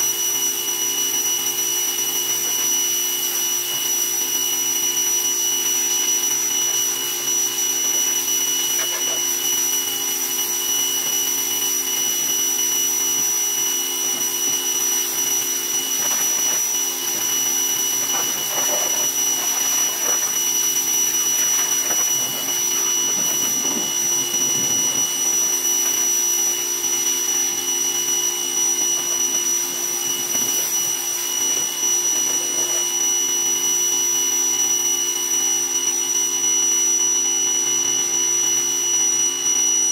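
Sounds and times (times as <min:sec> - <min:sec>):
pressure washer motor whining: 0:00.0 - 0:39.6
water jet hissing: 0:00.3 - 0:33.3.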